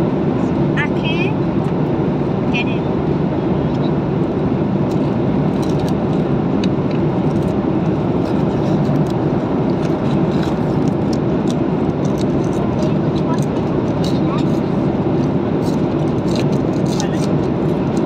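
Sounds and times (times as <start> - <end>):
airliner cabin roar: 0.0 - 18.0.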